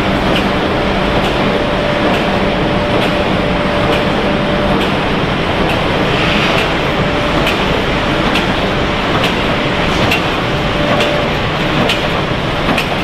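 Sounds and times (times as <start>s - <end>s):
production line machinery din: 0.0s - 13.0s.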